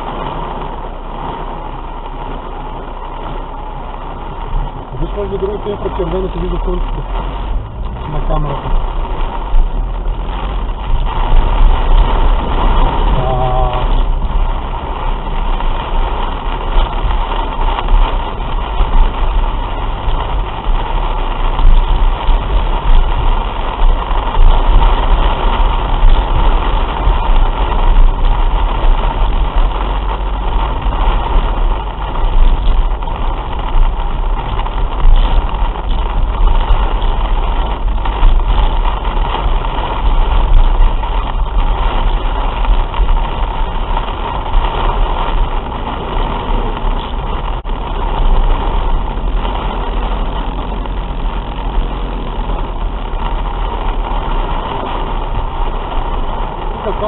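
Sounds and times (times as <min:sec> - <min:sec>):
car engine: 0:00.0 - 0:57.0
heavy rain on car roof: 0:00.0 - 0:57.0
road noise: 0:00.0 - 0:57.0.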